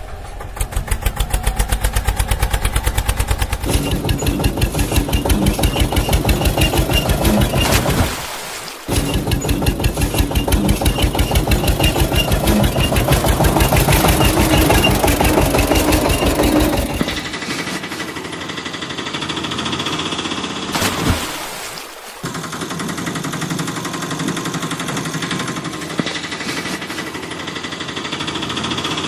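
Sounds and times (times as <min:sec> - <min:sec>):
engine knocking: 0:00.0 - 0:07.8, 0:08.9 - 0:20.7, 0:22.2 - 0:29.0.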